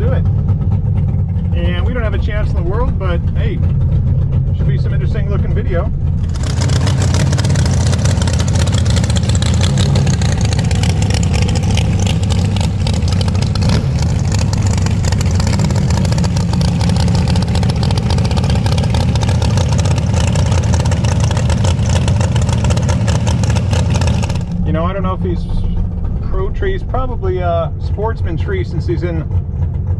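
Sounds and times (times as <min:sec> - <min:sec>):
dragster engine idling: 0:00.0 - 0:29.9.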